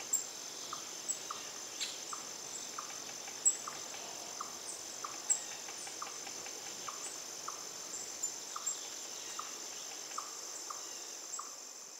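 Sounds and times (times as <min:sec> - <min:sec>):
insects droning: 0:00.0 - 0:11.9.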